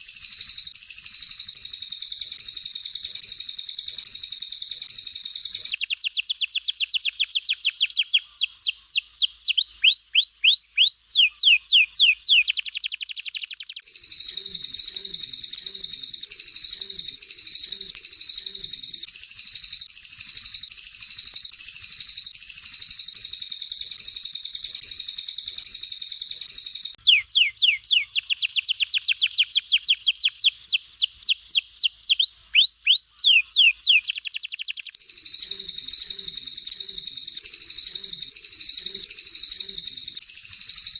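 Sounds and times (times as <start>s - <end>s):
canary song: 0.0s - 40.9s
songbird trill: 0.0s - 40.9s.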